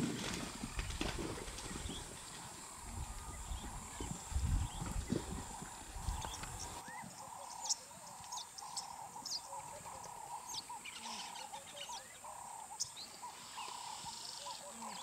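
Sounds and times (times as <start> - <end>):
birds chirping: 0.5 - 15.0.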